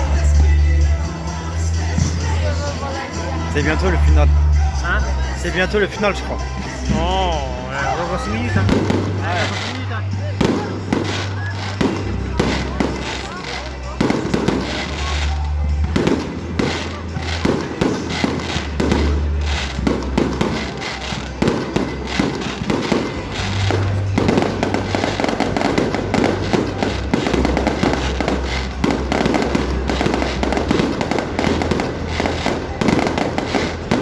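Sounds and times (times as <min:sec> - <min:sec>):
fireworks bursting and crackling: 0:00.0 - 0:34.0
music with steady bass: 0:00.0 - 0:34.0.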